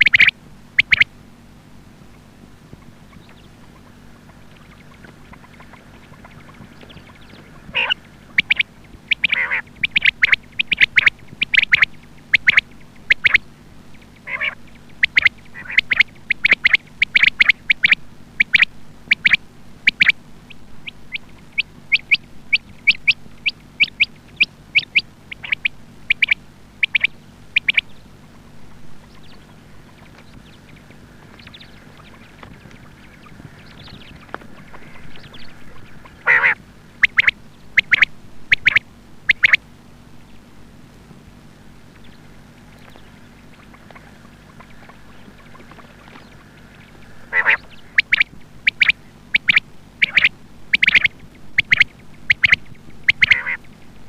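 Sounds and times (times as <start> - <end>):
quail calling: 0.0 - 1.2, 2.7 - 39.6, 41.6 - 53.8
faint steady hum: 0.0 - 54.0.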